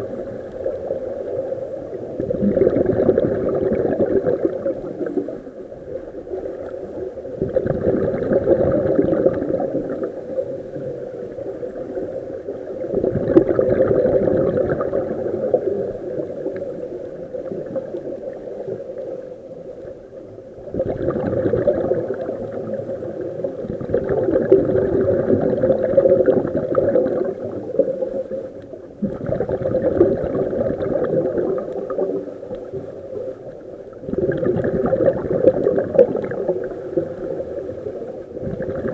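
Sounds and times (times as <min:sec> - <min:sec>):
bubbles gurgling underwater: 0:00.0 - 0:38.9.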